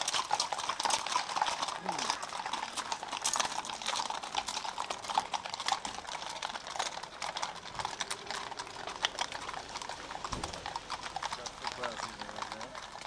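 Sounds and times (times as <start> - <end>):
horse hooves clip-clopping on tarmac: 0.0 - 13.0.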